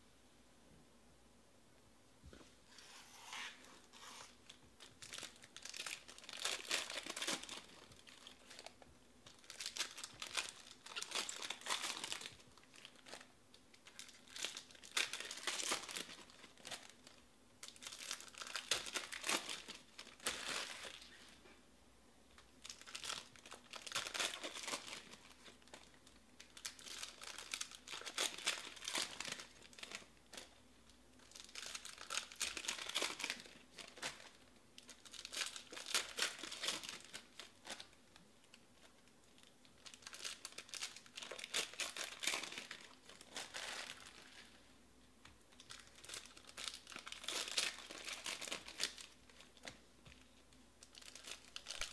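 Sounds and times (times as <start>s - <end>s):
foil wrappers crinkling and tearing: 4.0s - 21.3s, 22.6s - 30.6s, 31.2s - 44.6s, 45.5s - 50.2s, 50.8s - 51.9s.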